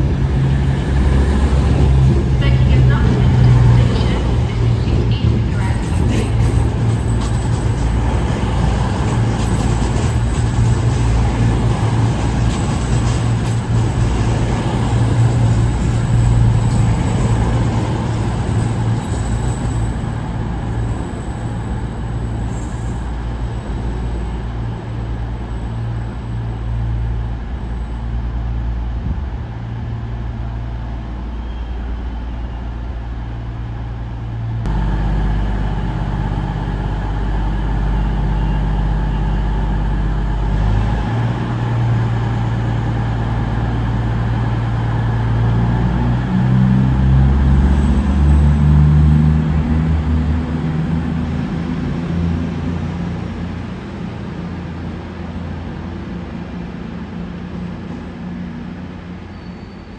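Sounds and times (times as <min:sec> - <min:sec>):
diesel train engine humming: 0:00.0 - 0:59.9.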